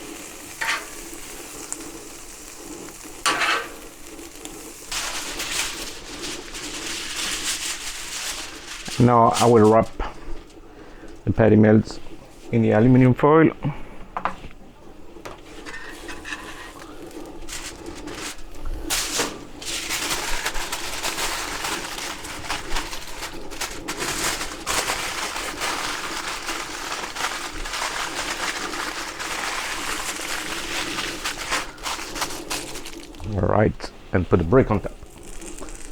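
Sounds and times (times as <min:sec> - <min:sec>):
aluminum foil crinkling: 0:00.0 - 0:11.3, 0:15.2 - 0:33.4, 0:34.4 - 0:35.9
griddle sizzling: 0:00.0 - 0:35.9.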